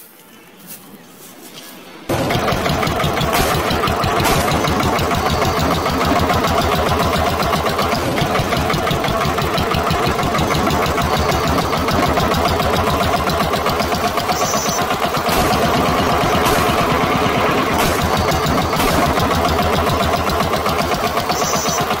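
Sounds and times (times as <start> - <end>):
tractor engine chugging: 2.1 - 22.0.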